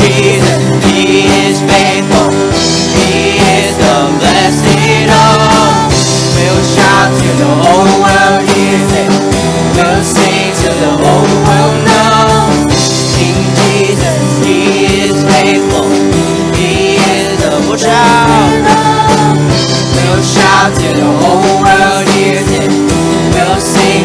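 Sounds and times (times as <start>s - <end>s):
band playing worship song: 0.0s - 24.0s
person singing: 0.0s - 24.0s.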